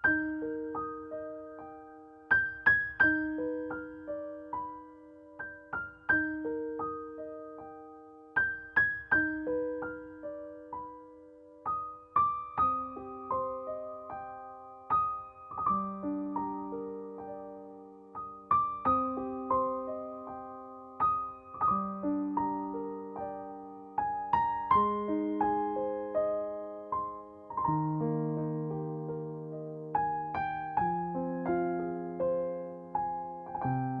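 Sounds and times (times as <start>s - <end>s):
slow gentle piano: 0.0s - 34.0s.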